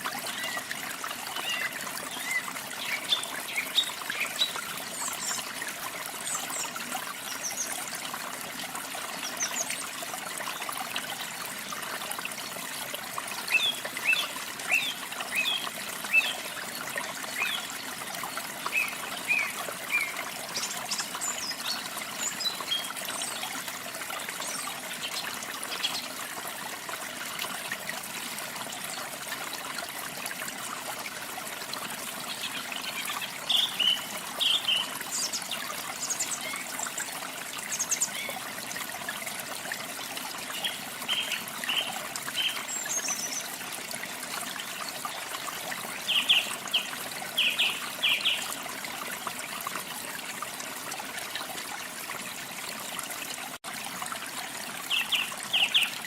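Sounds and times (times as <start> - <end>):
small waterfall splashing: 0.0 - 56.0.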